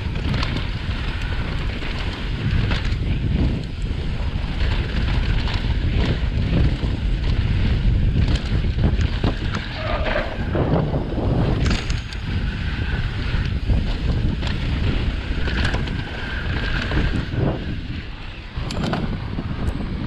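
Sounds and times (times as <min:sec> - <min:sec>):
bike rattling and knocking: 0:00.0 - 0:20.0
tyres on loose dirt: 0:00.0 - 0:20.0
wind rushing over microphone: 0:00.0 - 0:20.0.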